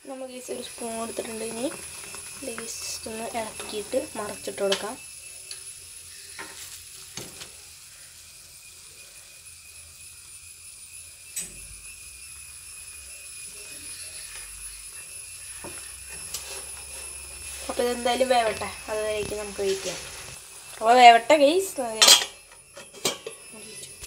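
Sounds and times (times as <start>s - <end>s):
water boiling in a frying pan: 0.0s - 24.0s.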